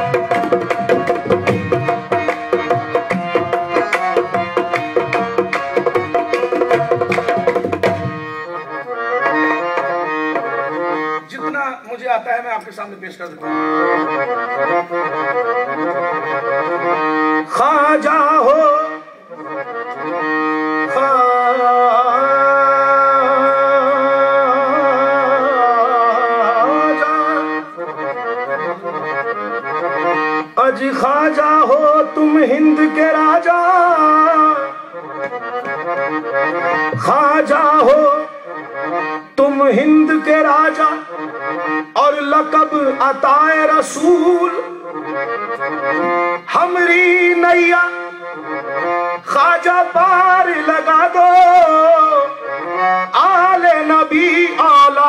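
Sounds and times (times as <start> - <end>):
harmonium chords: 0.0 - 55.0.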